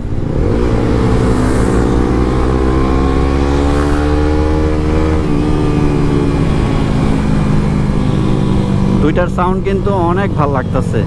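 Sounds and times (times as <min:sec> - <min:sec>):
motorcycle engine accelerating: 0:00.0 - 0:10.8.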